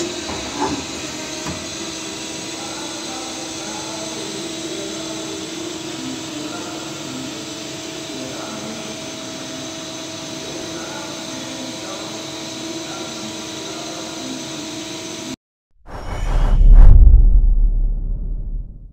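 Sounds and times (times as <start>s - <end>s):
lathe machine hum and hiss: 0.0s - 15.4s.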